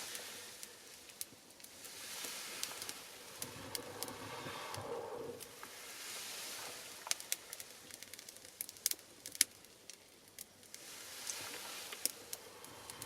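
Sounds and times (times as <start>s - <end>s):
fire crackling and popping: 0.0s - 13.0s
soft hiss of flame: 0.0s - 13.0s.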